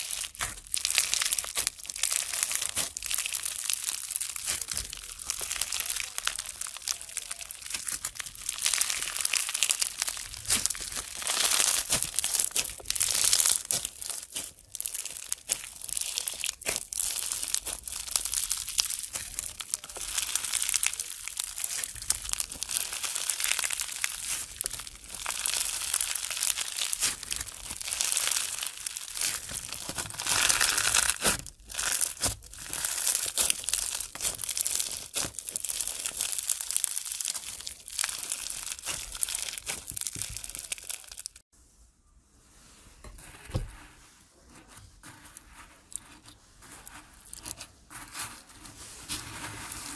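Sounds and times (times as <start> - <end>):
crunchy slime crackling: 0.0 - 41.5.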